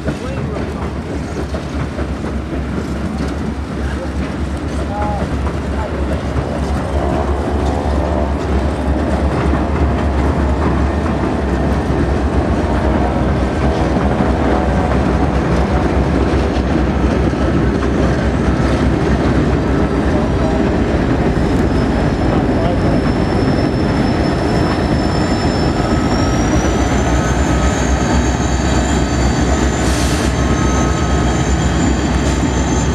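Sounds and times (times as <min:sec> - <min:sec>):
train rumbling: 0:00.0 - 0:32.9
train wheels clacking over rail joints: 0:00.0 - 0:32.9.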